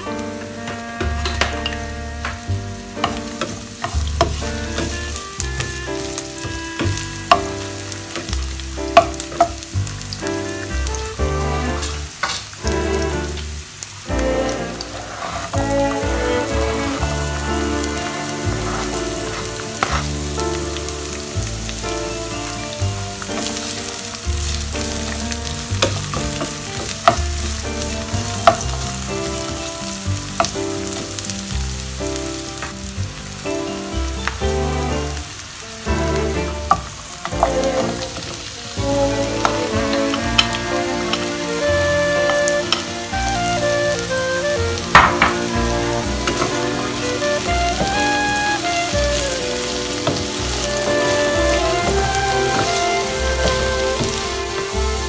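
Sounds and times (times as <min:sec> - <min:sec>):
music with bass line: 0:00.0 - 0:14.9, 0:15.6 - 0:35.3, 0:35.9 - 0:55.0
onion sizzling in oil: 0:00.0 - 0:55.0.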